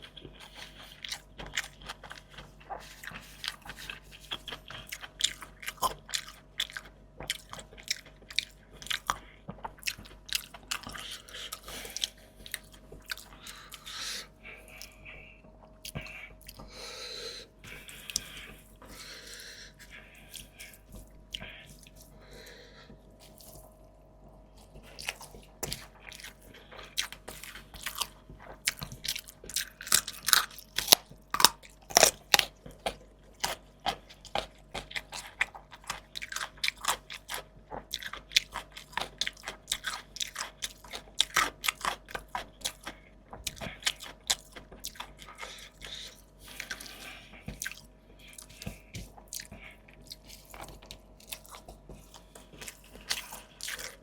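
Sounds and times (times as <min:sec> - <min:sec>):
loud crunching of crisp food: 0:00.0 - 0:15.0, 0:24.5 - 0:54.0
wet chewing: 0:00.0 - 0:54.0.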